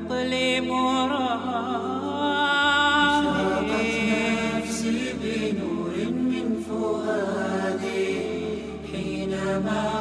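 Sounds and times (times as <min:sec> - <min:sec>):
layered voices singing in harmony: 0:00.0 - 0:10.0.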